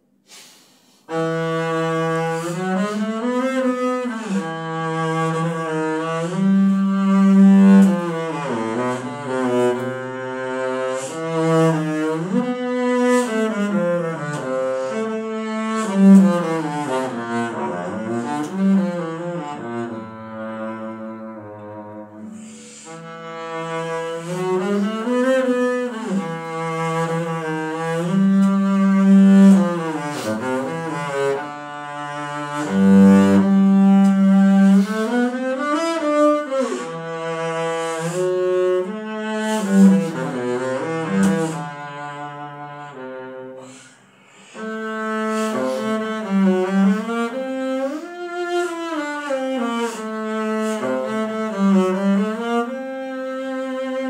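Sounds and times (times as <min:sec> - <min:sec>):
bowed double bass: 0:01.1 - 0:54.0.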